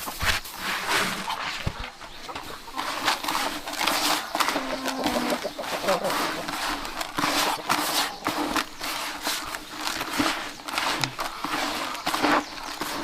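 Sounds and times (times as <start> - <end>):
irregular knocks and scrapes: 0.0 - 13.0.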